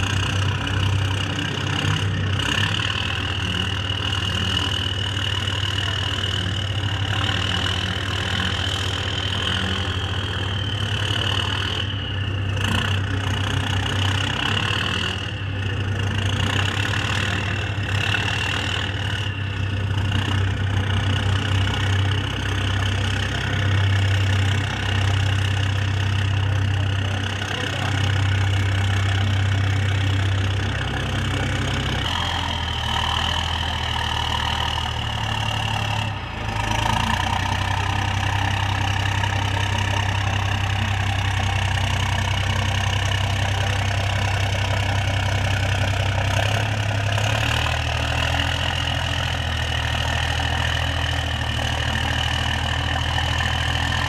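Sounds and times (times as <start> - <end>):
diesel engine running with whine: 0.0 - 54.0.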